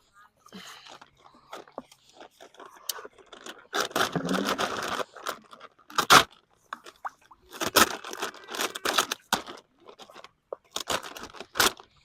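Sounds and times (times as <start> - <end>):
feed sacks rustling and crinkling: 0.6 - 12.0.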